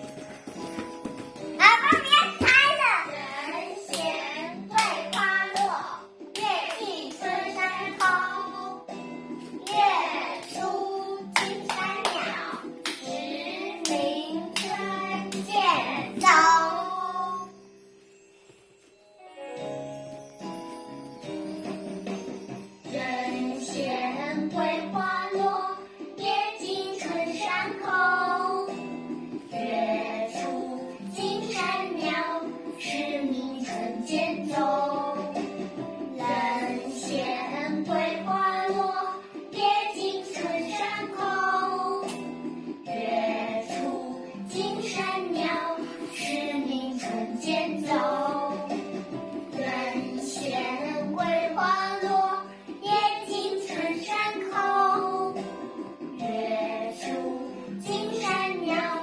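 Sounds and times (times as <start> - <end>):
child singing: 1.6 - 8.9, 9.6 - 17.5, 22.9 - 28.8, 29.5 - 35.4, 36.1 - 42.2, 42.9 - 48.7, 49.5 - 55.6, 56.2 - 59.0.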